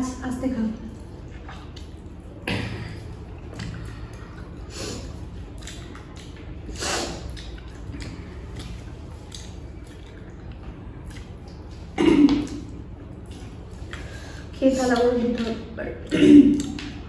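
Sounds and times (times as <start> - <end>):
steady low hum: 0.0 - 17.0
chewing and wet mouth sounds: 0.8 - 17.0.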